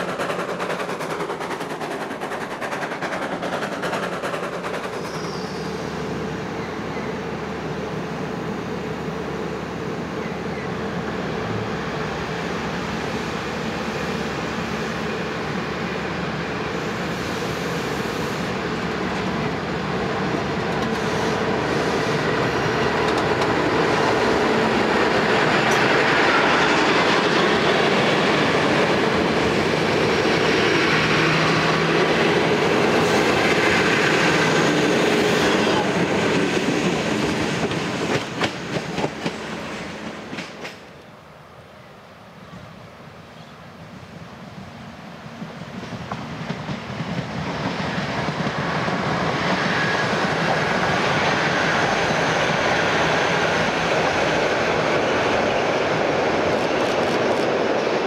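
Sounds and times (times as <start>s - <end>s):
train wheels on rails: 0.0s - 41.2s, 42.3s - 58.0s
diesel train engines: 0.0s - 58.0s.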